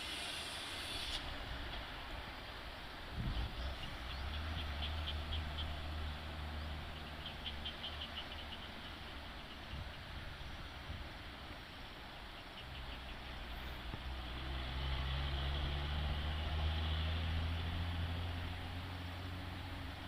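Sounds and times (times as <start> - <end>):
truck diesel engine humming: 1.2 - 20.0.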